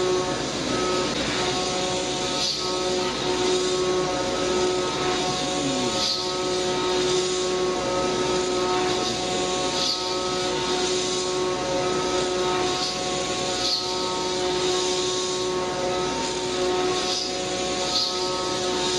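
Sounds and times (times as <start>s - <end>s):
hiss of cutting: 0.0s - 18.9s
milling machine spindle whine: 0.0s - 18.9s.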